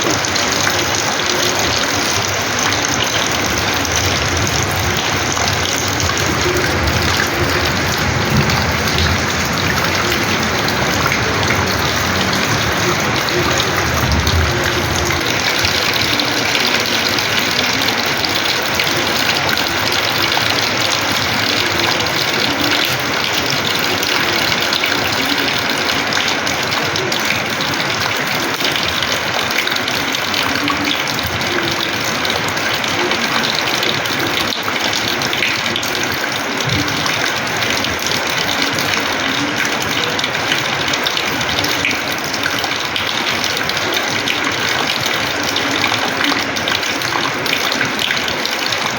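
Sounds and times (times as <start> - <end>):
rainwater gushing onto floor: 0.0 - 48.9.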